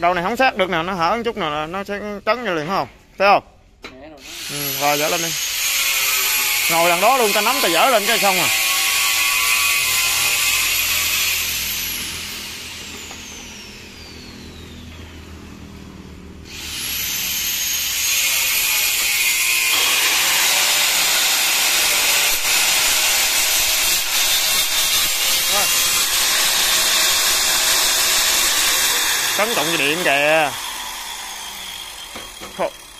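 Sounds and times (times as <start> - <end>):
angle grinder whining: 4.2 - 15.5, 16.5 - 32.9.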